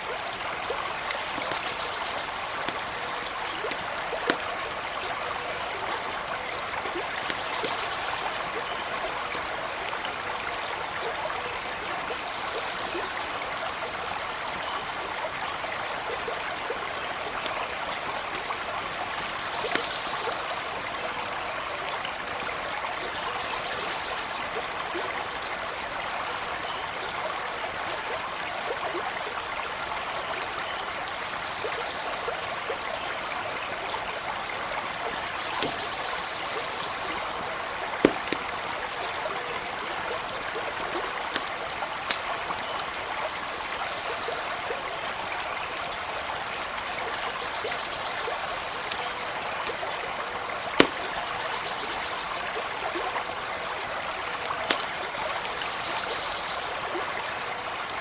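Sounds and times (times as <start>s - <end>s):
small stream running: 0.0s - 58.0s
campfire pops and crackles: 0.1s - 27.4s, 30.3s - 47.0s, 48.6s - 55.3s.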